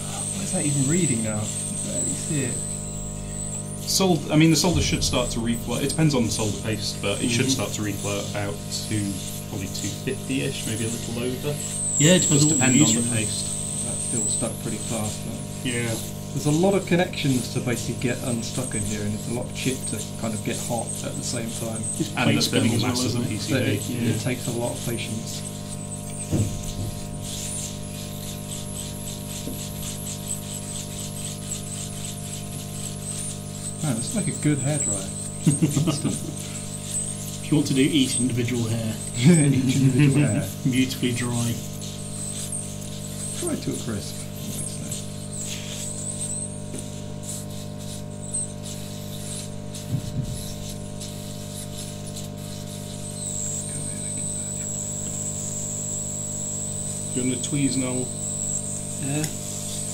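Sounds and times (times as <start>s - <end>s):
hot air station humming: 0.0s - 59.9s
thin high whine: 0.0s - 59.9s.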